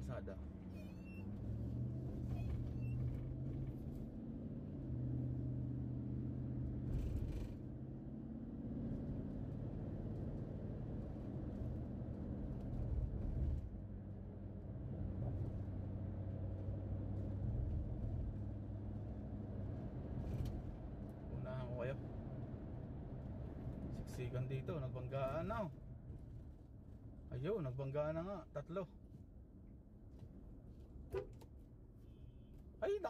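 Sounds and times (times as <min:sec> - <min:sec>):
car engine rumble: 0:00.0 - 0:33.0
road noise: 0:00.0 - 0:33.0.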